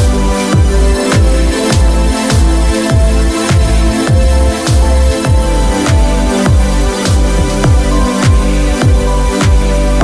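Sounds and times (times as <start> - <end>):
deep kick drum beat: 0.0 - 10.0
held synth notes: 0.0 - 10.0.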